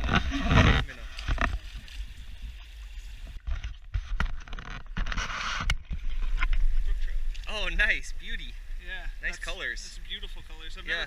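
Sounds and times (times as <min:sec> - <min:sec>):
creek water over gravel: 0:00.0 - 0:11.0
wind rumble on microphone: 0:00.0 - 0:11.0.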